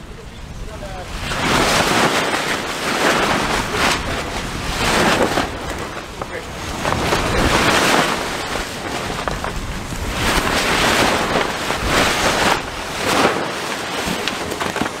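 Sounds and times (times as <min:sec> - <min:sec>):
wind buffeting microphone: 0:00.0 - 0:15.0
rushing sea water: 0:00.4 - 0:15.0.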